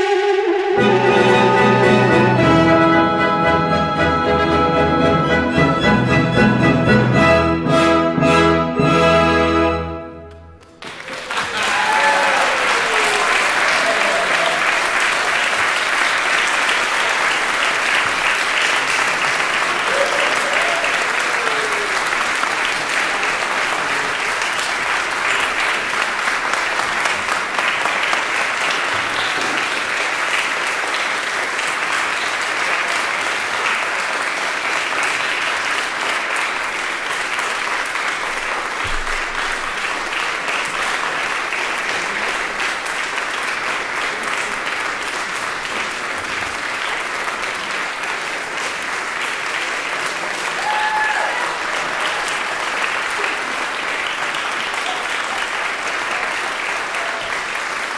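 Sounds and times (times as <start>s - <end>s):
audience applauding: 10.3s - 57.9s.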